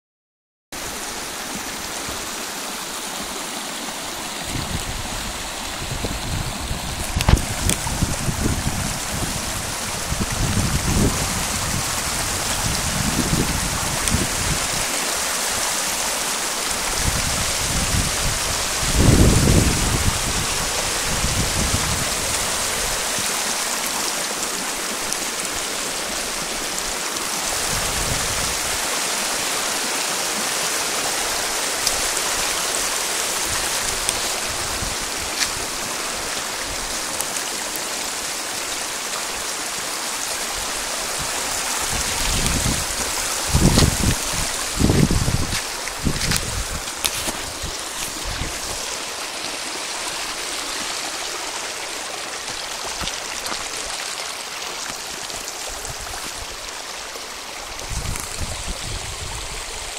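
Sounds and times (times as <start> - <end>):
floodwater rushing: 0.8 - 59.9.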